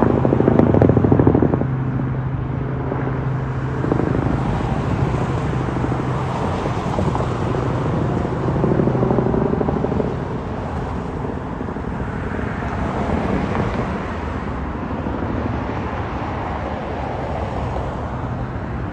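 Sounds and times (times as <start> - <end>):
helicopter passing by: 0.0 - 18.9.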